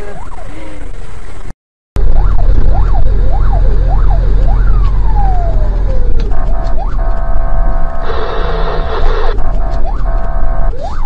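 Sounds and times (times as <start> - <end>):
siren wailing: 2.0 - 11.0.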